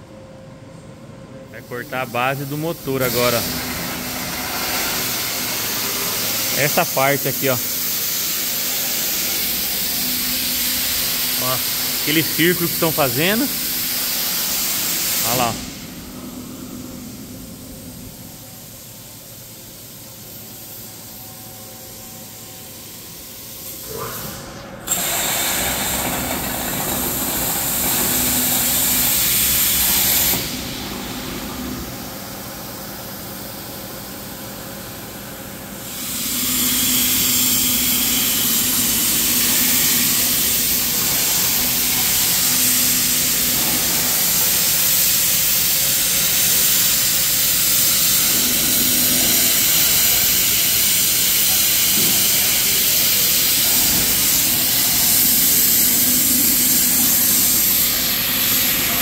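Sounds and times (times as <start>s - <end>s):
plasma cutter hissing: 1.6s - 16.1s, 21.9s - 32.1s, 35.8s - 59.0s.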